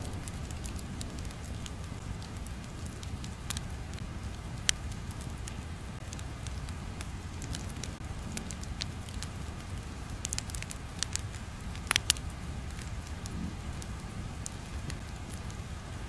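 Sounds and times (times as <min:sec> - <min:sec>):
low steady rumble: 0:00.0 - 0:16.0
sharp pops and crackles: 0:00.0 - 0:16.0.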